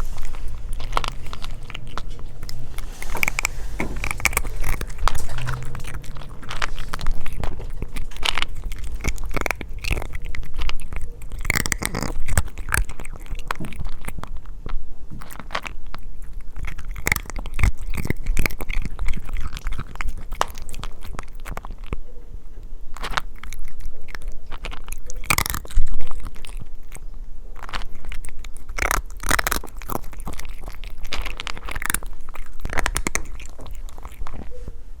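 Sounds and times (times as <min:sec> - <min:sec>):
cat crunching dry kibble: 0:00.0 - 0:22.0, 0:22.7 - 0:34.5.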